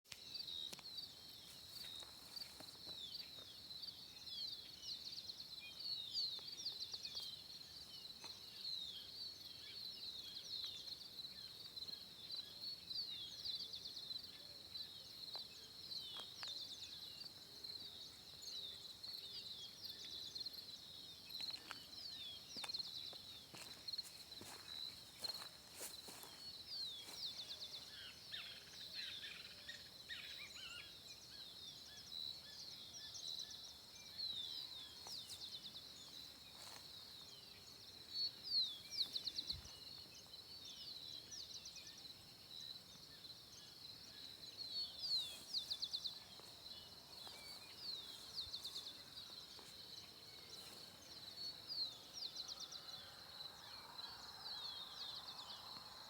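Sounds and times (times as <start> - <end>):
songbirds trilling: 0.4 - 56.0.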